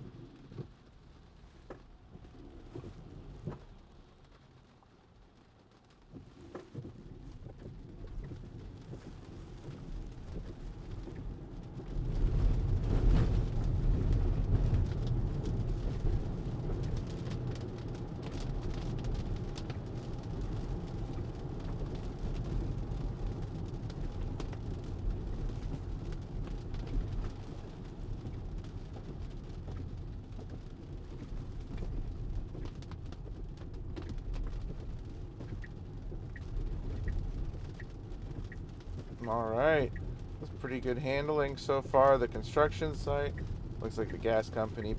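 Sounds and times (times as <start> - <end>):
rain ticking on car: 0.0 - 44.9
tyre noise on wet road: 0.1 - 44.9.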